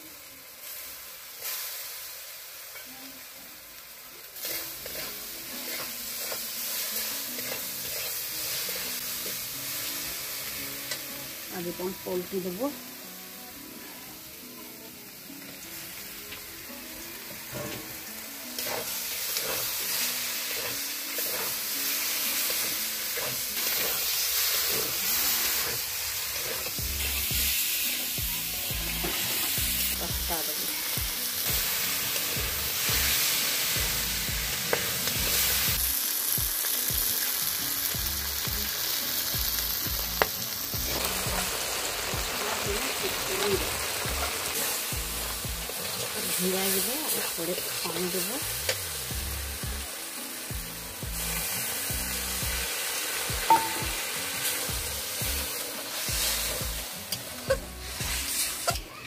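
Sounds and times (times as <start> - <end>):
chicken sizzling in oil: 0.0 - 59.0.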